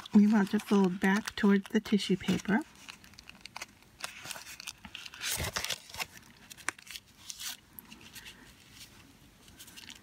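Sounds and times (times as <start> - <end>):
paper crinkling as folded: 0.0 - 10.0.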